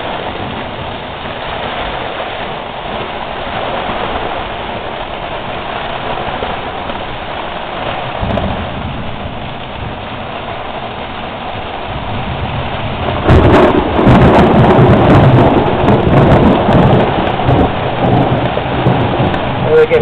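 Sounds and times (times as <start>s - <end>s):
rain: 0.0s - 20.0s
wind buffeting microphone: 0.0s - 20.0s
wind gusting: 0.0s - 20.0s.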